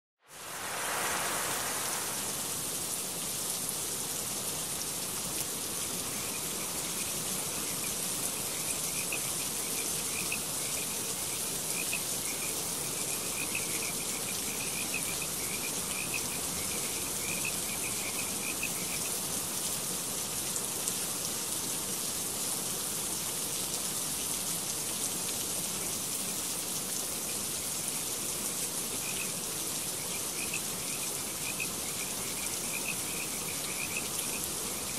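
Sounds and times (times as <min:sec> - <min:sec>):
water rushing steadily: 0:00.2 - 0:18.4, 0:19.3 - 0:34.9.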